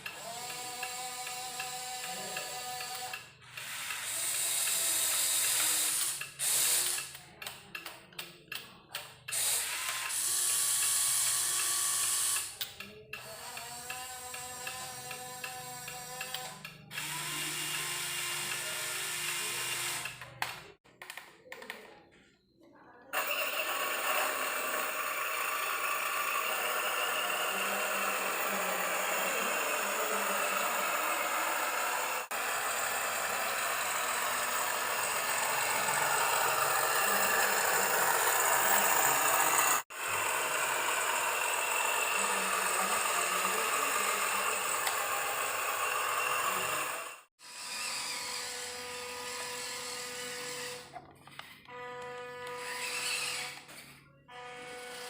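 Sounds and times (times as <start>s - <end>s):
small electric motors whirring: 0.0s - 20.8s, 23.1s - 55.0s.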